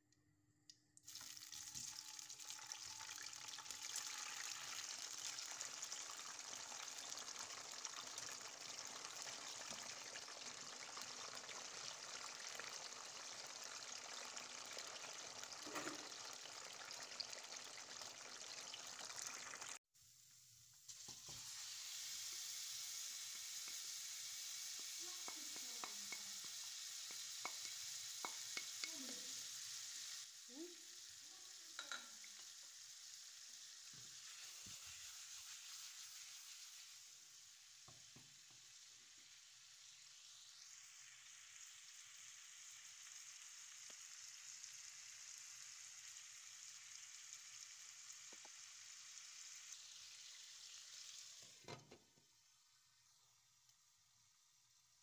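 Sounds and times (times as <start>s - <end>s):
chicken wings sizzling in oil: 1.0s - 55.0s.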